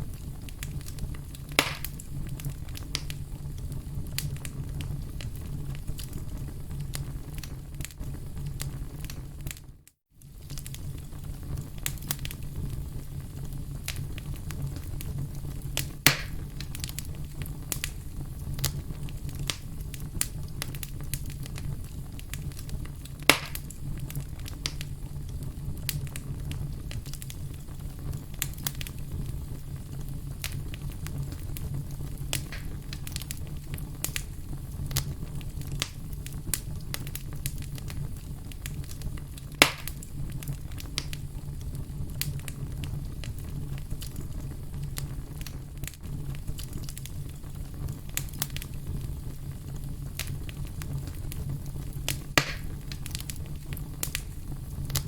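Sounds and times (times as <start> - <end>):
loud fire pops: 0.0 - 9.6, 10.2 - 55.0
fire low rumble: 0.0 - 55.0
wood fire crackling: 0.0 - 55.0.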